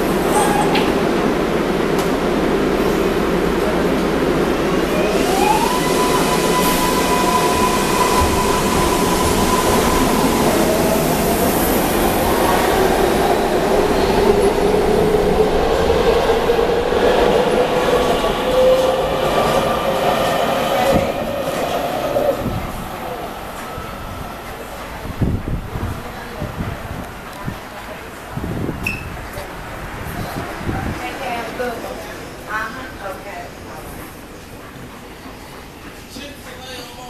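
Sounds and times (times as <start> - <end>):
train wheels rumbling on rails: 0.0 - 32.4.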